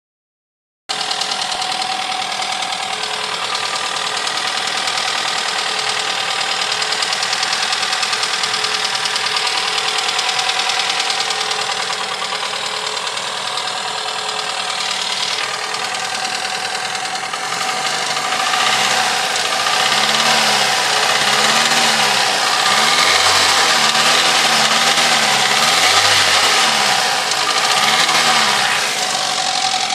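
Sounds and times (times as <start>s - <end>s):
petrol engine clattering and revving: 0.9s - 29.9s.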